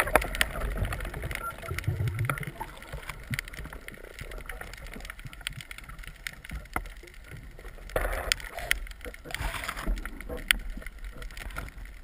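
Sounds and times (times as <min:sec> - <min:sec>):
sharp clicks and crackles: 0:00.0 - 0:12.0.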